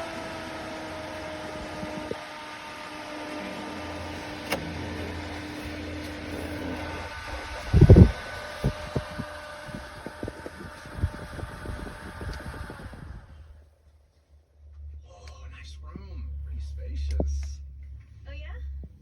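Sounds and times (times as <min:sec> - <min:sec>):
exhaust fan humming: 0:00.0 - 0:19.0.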